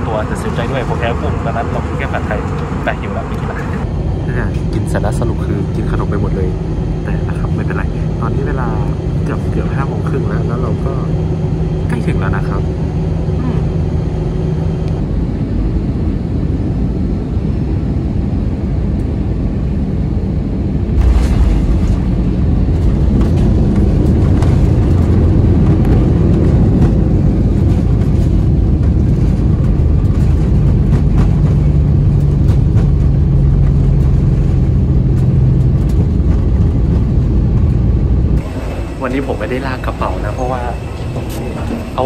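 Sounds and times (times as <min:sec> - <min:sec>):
jet engines and airflow rumble: 0:00.0 - 0:42.0
jet reverse thrust roar: 0:00.0 - 0:42.0.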